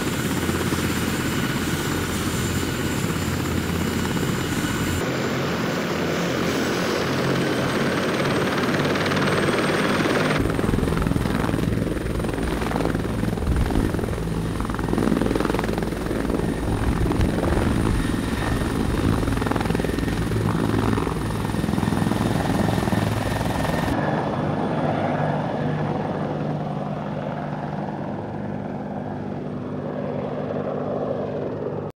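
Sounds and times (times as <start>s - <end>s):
high turbine whine: 0.0s - 30.6s
helicopter rotor noise: 0.0s - 31.9s.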